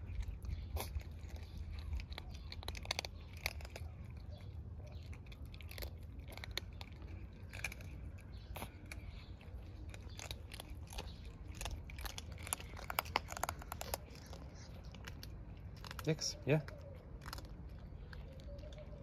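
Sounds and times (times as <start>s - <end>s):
cats crunching dry kibble: 0.0s - 19.0s.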